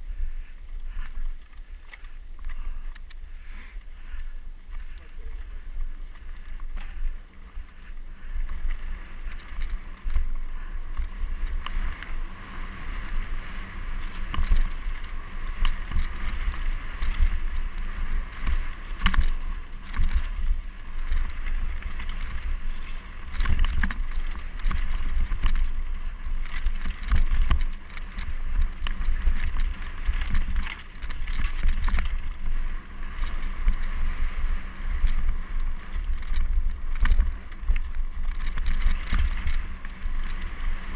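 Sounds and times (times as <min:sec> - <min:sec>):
bike rumbling over dirt trail: 0:00.0 - 0:40.9
bike knocks and rattles: 0:06.1 - 0:40.9.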